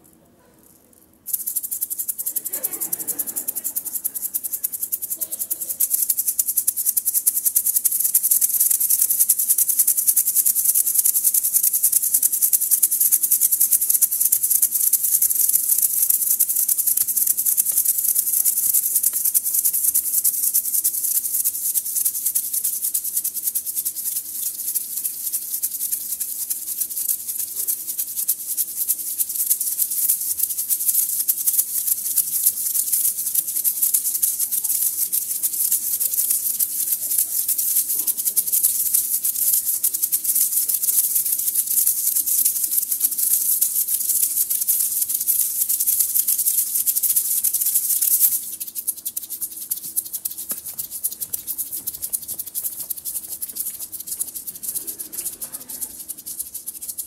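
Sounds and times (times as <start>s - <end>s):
shaker-like percussion rattling: 0.0s - 57.0s.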